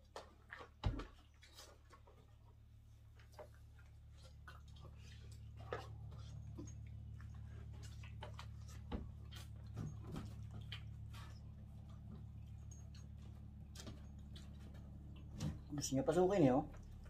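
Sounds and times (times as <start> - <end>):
steady low hum: 2.4 - 17.0.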